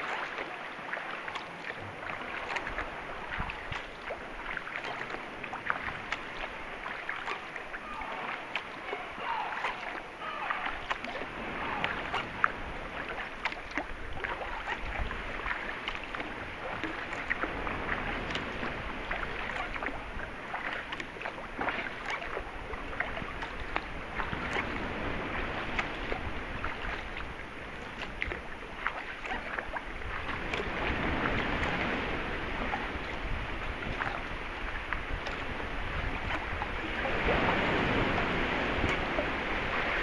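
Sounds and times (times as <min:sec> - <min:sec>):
paddle blades dipping and dripping: 0:00.0 - 0:40.0
water lapping against hull: 0:00.0 - 0:40.0.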